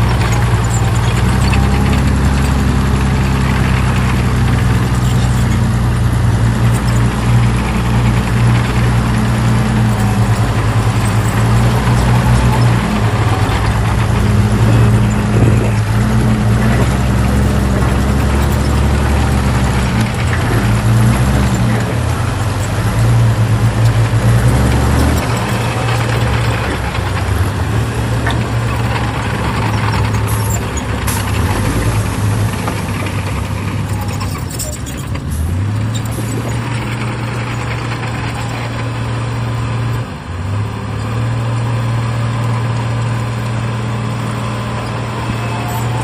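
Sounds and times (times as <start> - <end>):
heavy machinery diesel engine drone: 0.0 - 46.0.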